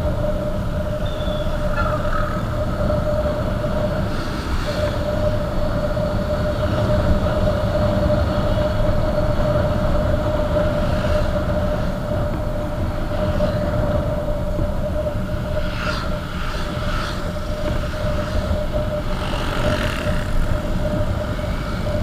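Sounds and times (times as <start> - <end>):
motorcycle engine drone: 0.0 - 22.0
wind rumble on microphone: 0.0 - 22.0.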